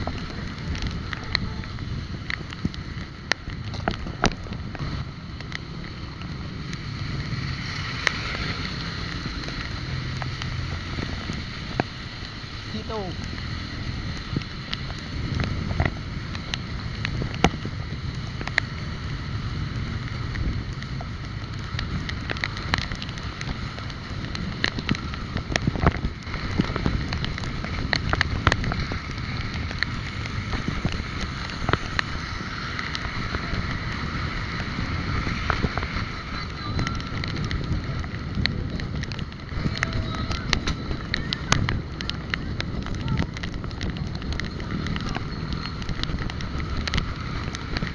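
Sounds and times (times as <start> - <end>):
bike road noise rumble: 0.0 - 47.9
wind buffeting microphone: 0.0 - 47.9.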